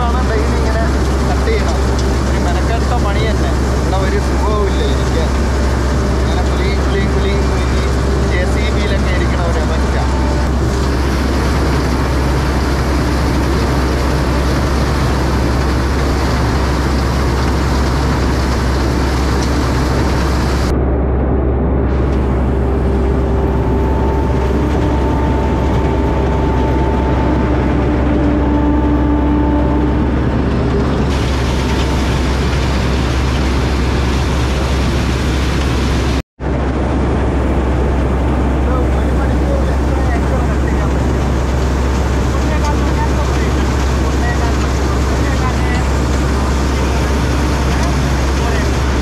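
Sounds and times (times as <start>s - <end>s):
combine harvester engine running: 0.0s - 49.0s.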